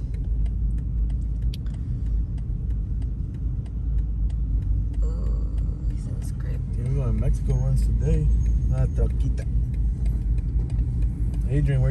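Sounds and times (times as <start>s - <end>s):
car engine and road noise: 0.0s - 11.9s
faint ticks: 0.0s - 11.9s.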